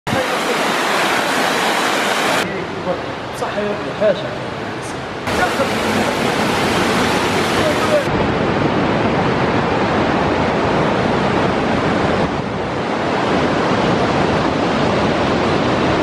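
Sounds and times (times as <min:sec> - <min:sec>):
loud rushing noise: 0:00.1 - 0:02.7, 0:05.1 - 0:16.0.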